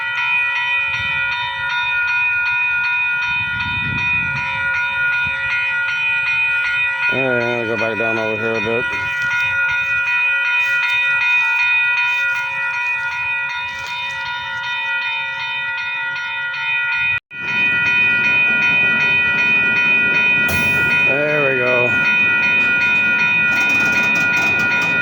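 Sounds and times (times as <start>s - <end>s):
railroad crossing bell clanging: 0.0s - 25.0s.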